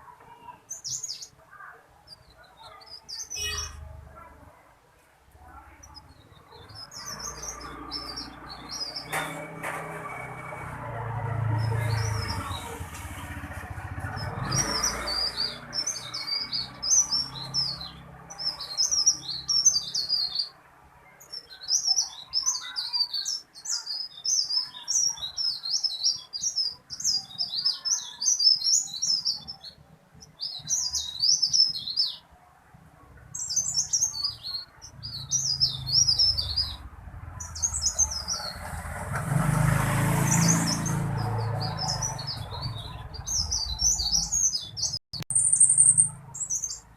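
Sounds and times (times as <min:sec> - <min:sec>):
songbird rapid chattering song: 0:00.4 - 0:04.0, 0:05.4 - 0:10.6, 0:11.4 - 0:20.6, 0:21.2 - 0:32.3, 0:33.2 - 0:46.9.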